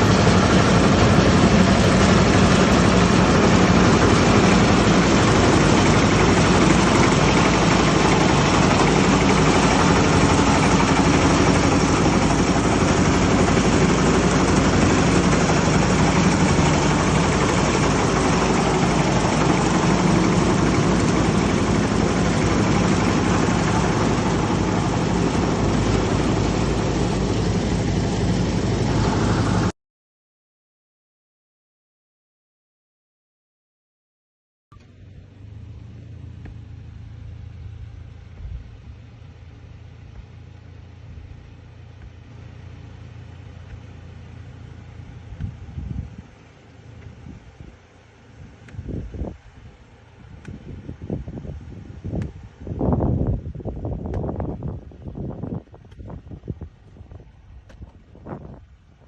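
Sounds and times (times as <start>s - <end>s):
engine running steadily: 0.0s - 29.7s, 34.8s - 59.0s.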